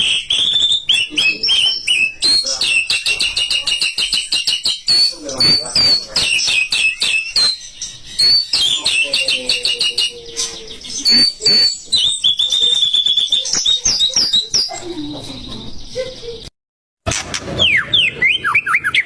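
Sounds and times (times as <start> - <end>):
bird singing whistled notes: 0.0 - 14.8, 17.6 - 19.0.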